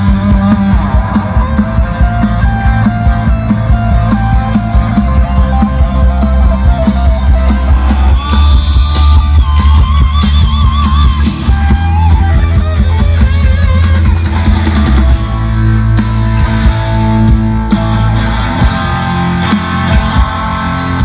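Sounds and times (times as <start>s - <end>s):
loud rock music: 0.0s - 21.0s.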